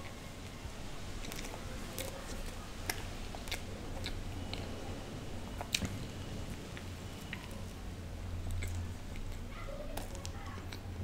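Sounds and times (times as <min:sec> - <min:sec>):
chewing soft cake: 0:00.0 - 0:11.0.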